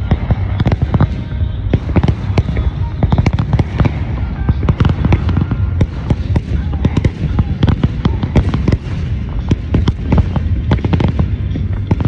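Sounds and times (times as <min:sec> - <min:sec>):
deep rumble: 0:00.0 - 0:12.0
fireworks crackling: 0:00.0 - 0:12.0.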